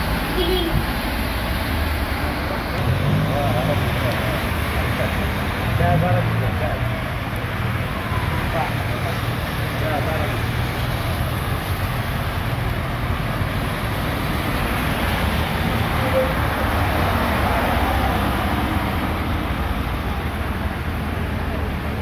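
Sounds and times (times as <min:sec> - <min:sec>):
heavy rain on street: 0:00.0 - 0:22.0
tyres swishing through water: 0:00.0 - 0:22.0.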